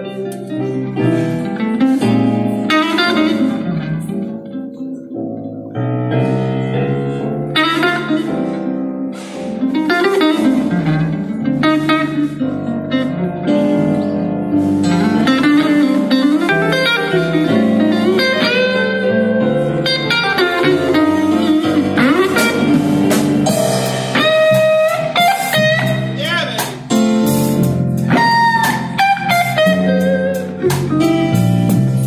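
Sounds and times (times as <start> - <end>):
electric blues guitar lead: 0.0 - 32.0
keyboard accompaniment: 0.0 - 32.0.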